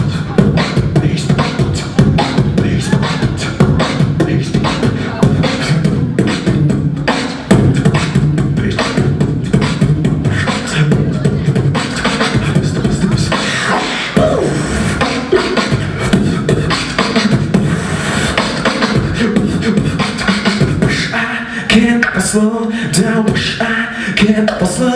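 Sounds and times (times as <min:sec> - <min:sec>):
beatboxing into a microphone: 0:00.0 - 0:24.9
gliding pitched vocal sounds: 0:00.0 - 0:24.9.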